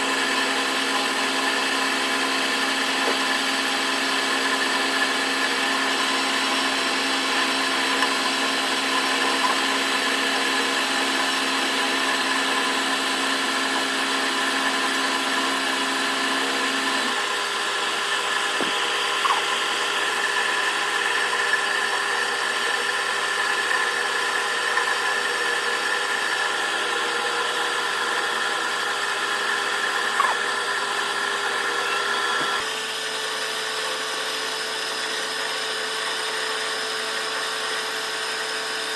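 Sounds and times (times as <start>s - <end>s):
machine running steadily: 0.0s - 38.9s.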